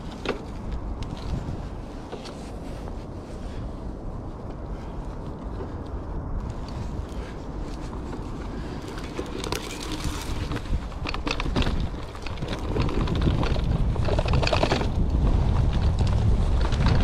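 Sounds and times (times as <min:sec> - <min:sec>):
e-bike clattering over rough ground: 0:00.0 - 0:02.5, 0:04.4 - 0:17.0
wind buffeting microphone: 0:00.0 - 0:17.0.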